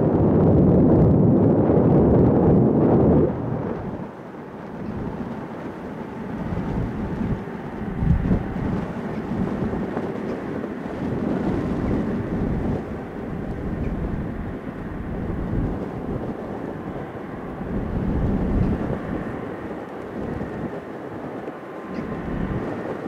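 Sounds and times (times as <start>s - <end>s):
jet engines taxiing: 0.0s - 23.0s
loud low jet engine rumble: 0.0s - 23.0s.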